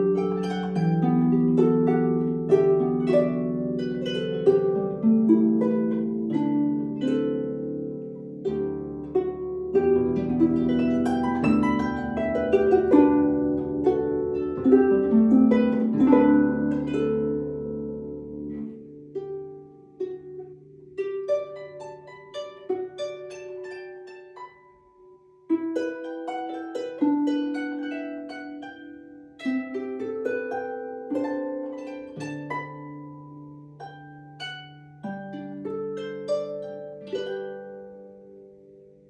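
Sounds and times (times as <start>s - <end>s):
harp plucked notes: 0.0s - 39.0s.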